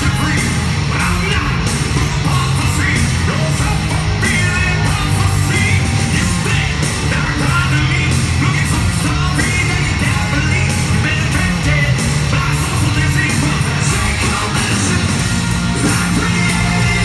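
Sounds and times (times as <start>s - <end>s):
drums with cymbals: 0.0s - 17.0s
electric guitars: 0.0s - 17.0s
person singing and shouting: 0.0s - 17.0s.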